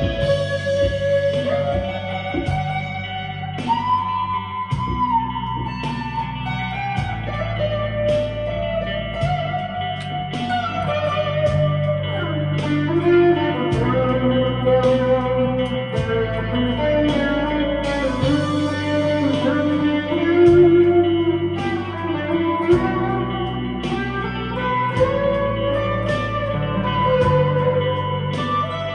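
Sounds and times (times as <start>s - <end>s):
electric guitar lead with bends: 0.0s - 28.9s.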